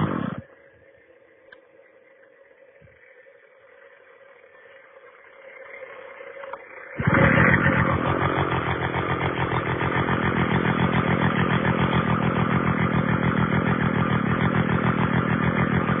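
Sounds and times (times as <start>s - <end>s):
chainsaw running: 0.0s - 16.0s.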